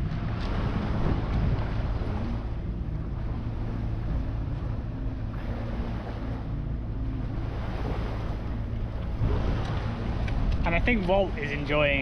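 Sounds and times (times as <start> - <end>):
boat engine droning: 0.0 - 12.0
water rushing past hull: 0.0 - 12.0
wind on microphone: 0.0 - 12.0.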